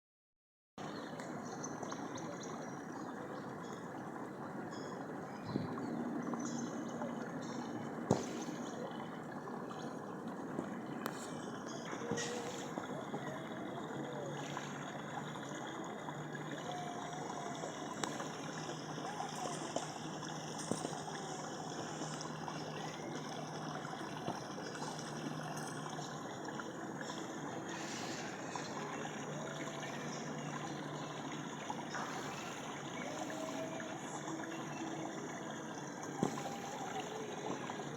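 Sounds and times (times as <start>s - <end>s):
running water: 0.8s - 37.9s.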